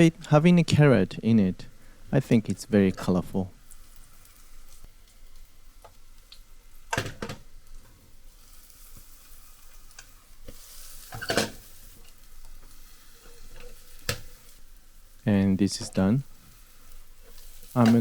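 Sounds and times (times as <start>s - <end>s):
egg sizzling in a pan: 1.6s - 18.0s.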